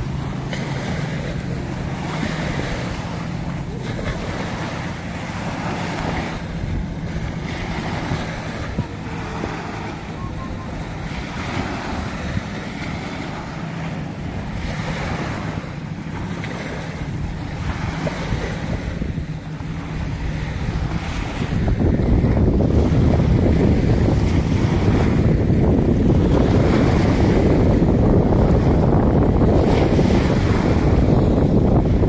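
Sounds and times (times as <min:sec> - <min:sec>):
small waves breaking on sand: 0:00.0 - 0:32.0
wind buffeting microphone: 0:00.0 - 0:32.0.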